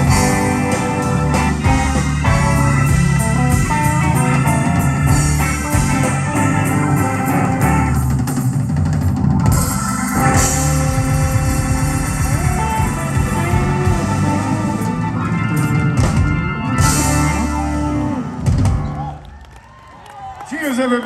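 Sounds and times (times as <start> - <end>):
blues guitar: 0.0 - 19.2
drum kit: 0.0 - 19.2.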